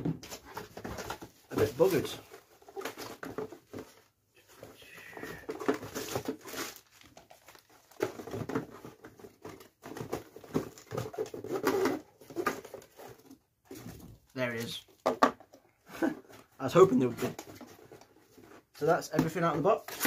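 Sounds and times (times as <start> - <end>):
cardboard and plastic rustling: 0.0 - 20.0.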